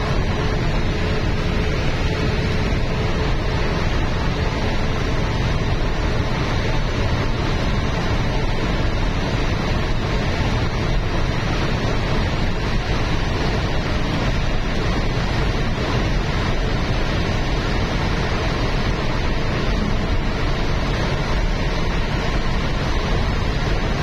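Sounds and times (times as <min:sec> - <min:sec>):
tyre noise on road: 0:00.0 - 0:24.0
wind rush: 0:00.0 - 0:24.0.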